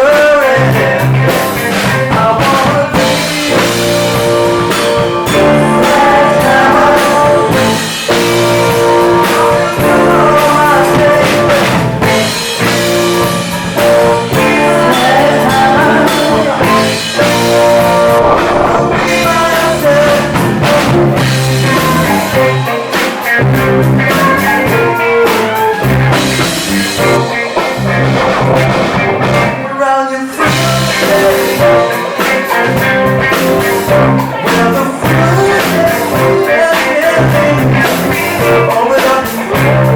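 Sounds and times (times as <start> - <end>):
drum kit: 0.0 - 39.9
electric guitar: 0.0 - 39.9
lead singer singing: 0.0 - 39.9.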